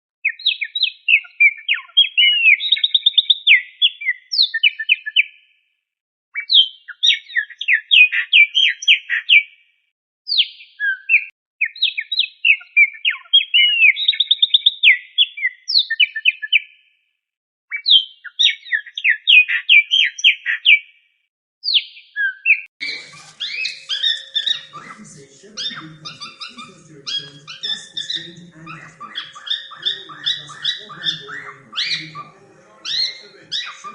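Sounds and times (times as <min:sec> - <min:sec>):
cockatiel whistling and chirping: 0:00.3 - 0:05.2, 0:06.4 - 0:09.5, 0:10.3 - 0:16.7, 0:17.7 - 0:20.8, 0:21.6 - 0:33.9.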